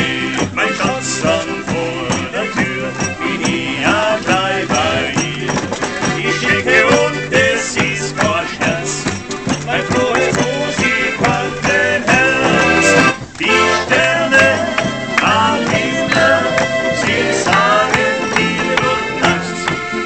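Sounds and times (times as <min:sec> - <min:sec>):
acoustic guitar: 0:00.0 - 0:20.0
button accordion: 0:00.0 - 0:20.0.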